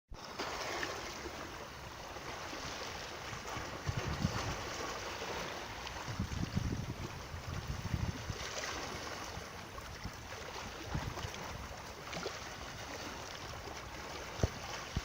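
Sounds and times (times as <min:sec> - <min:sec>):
water rushing: 0:00.2 - 0:15.0.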